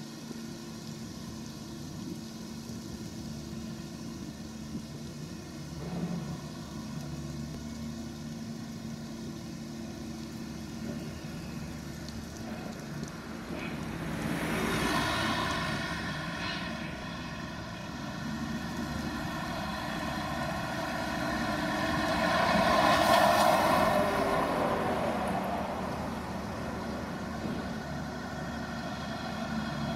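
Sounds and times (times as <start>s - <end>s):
excavator diesel engines running: 0.0s - 29.9s.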